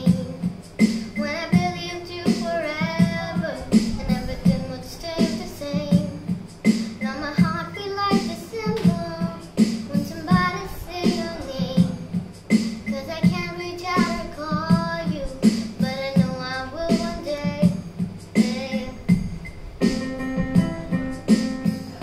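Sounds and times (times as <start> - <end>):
electronic keyboard with beat: 0.0 - 22.0
girl singing: 0.0 - 22.0.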